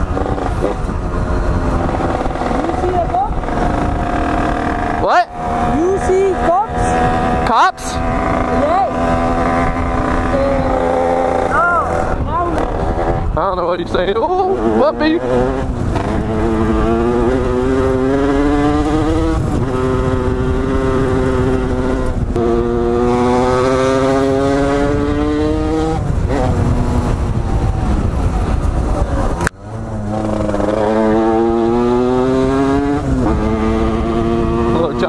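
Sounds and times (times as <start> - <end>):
dirt bike engine accelerating: 0.0 - 35.0.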